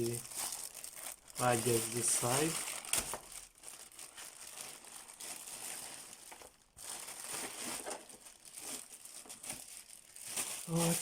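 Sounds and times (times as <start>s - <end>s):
box packaging rustling and crinkling: 0.0s - 11.0s.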